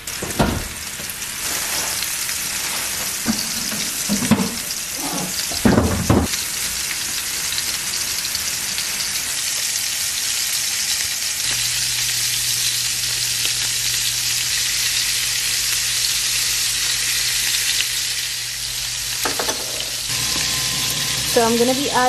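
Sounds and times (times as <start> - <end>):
meatballs sizzling in a pan: 0.0 - 22.0.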